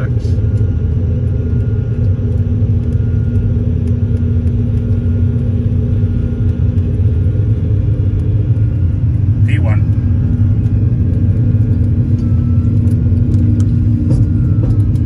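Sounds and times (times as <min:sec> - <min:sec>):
faint steady hum: 0:00.0 - 0:15.0
jet engine and runway rumble: 0:00.0 - 0:15.0.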